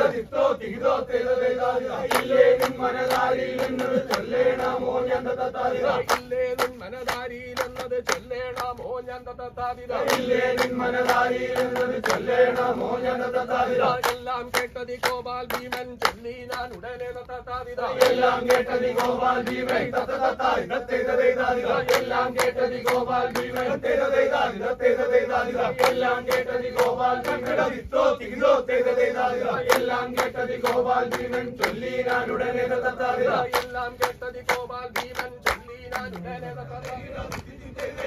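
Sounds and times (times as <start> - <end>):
men chanting in chorus: 0.0 - 38.0.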